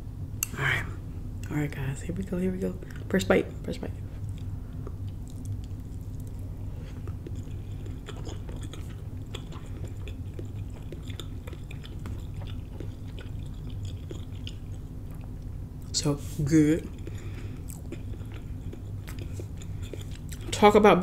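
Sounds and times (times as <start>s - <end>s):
low steady hum: 0.0s - 21.0s
person chewing food: 2.8s - 16.0s, 16.8s - 20.6s.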